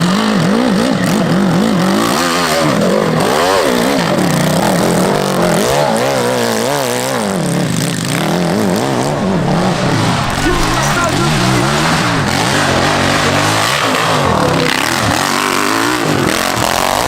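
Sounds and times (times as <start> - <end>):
motorcycle engines revving: 0.0 - 17.0
steady engine drone: 0.0 - 17.0.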